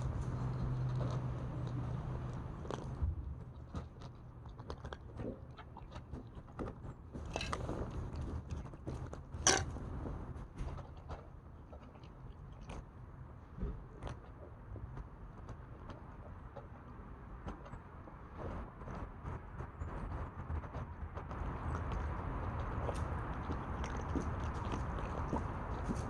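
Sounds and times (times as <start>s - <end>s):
pet chewing and crunching food: 0.0s - 26.0s.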